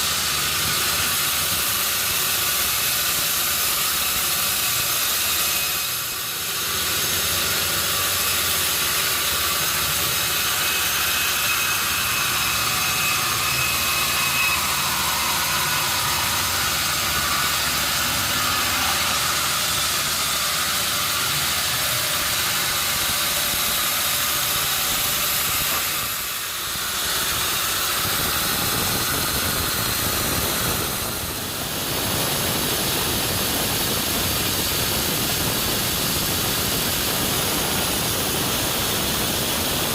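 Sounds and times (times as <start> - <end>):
sawmill saw and motor hissing: 0.0 - 39.9.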